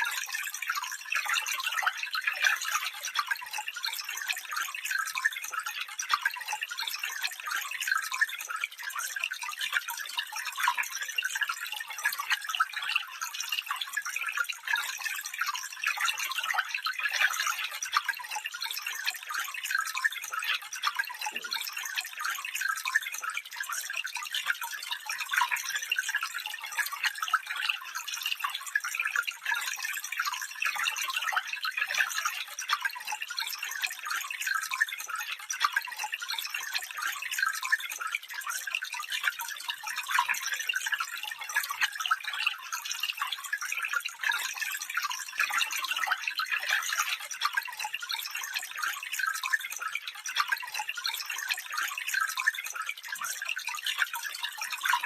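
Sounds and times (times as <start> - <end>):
small stream trickling: 0.0 - 55.0.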